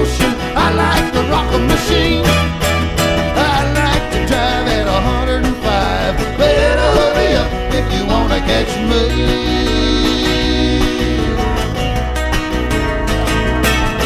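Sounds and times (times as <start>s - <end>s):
country-style music: 0.0s - 14.0s.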